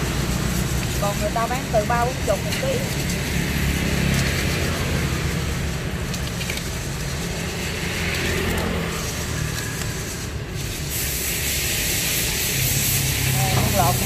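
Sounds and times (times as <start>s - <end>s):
street background rumble and hiss: 0.0s - 14.0s.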